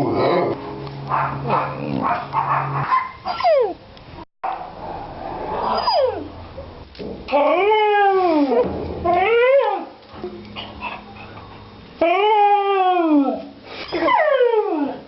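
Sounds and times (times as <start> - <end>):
low steady drone: 0.0 - 2.9, 3.8 - 13.7.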